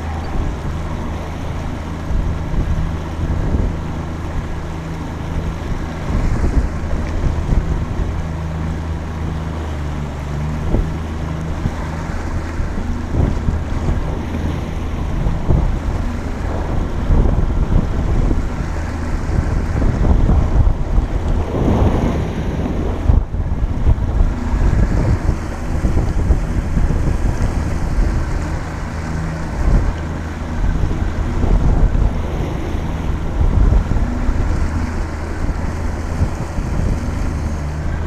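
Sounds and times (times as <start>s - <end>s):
outboard motor drone: 0.0s - 38.0s
water slapping against hull: 0.0s - 38.0s
wind buffeting microphone: 0.0s - 38.0s.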